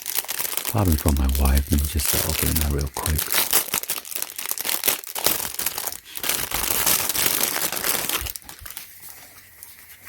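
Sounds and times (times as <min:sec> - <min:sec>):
packaging crinkling: 0:00.0 - 0:09.0.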